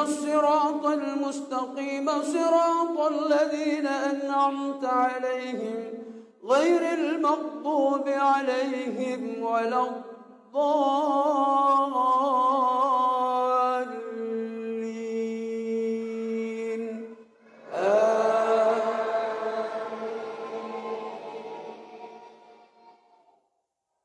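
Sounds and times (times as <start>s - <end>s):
man chanting through microphone: 0.0s - 10.0s, 10.6s - 22.4s.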